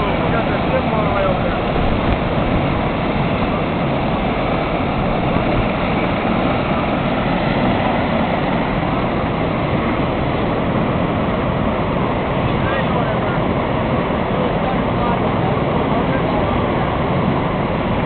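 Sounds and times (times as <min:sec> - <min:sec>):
helicopter and vehicle engines roaring: 0:00.0 - 0:18.0.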